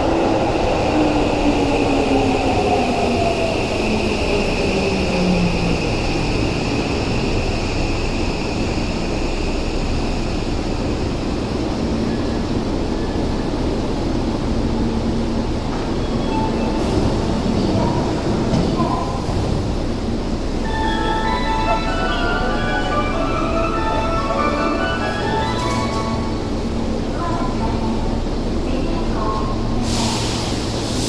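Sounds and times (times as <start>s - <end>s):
metro train braking to a stop: 0.0s - 31.0s.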